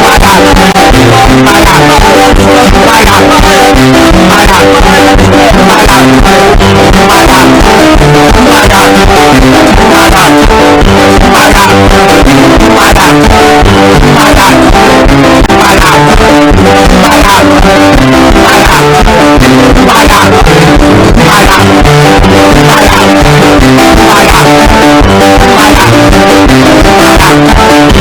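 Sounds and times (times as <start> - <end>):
loud guitar and bass music: 0.0 - 28.0.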